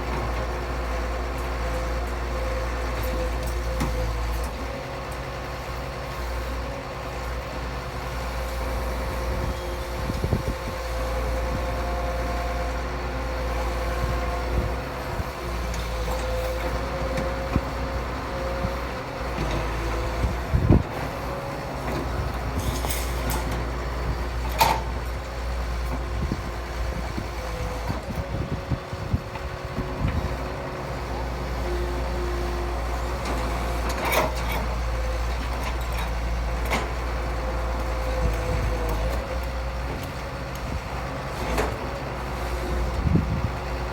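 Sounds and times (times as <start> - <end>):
diesel machinery engine drone: 0.0 - 43.9.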